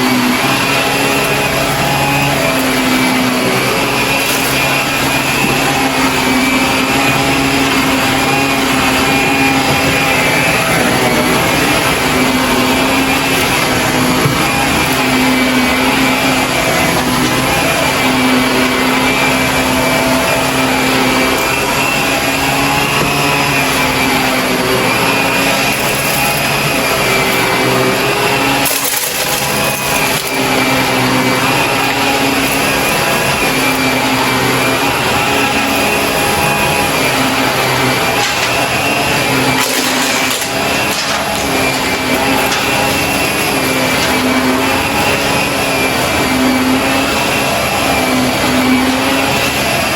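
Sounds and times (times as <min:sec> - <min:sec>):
vacuum cleaner motor hum: 0:00.0 - 0:49.9.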